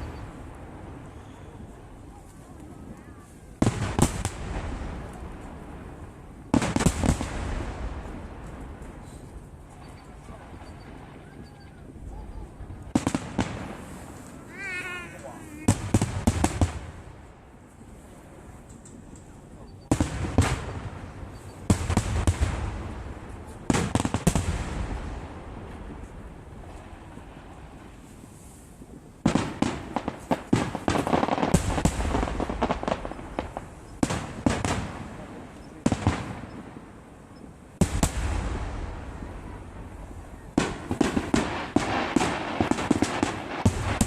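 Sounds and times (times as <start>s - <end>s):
continuous rumble: 0.0s - 44.0s
fireworks bursting with sharp bangs: 0.0s - 44.0s.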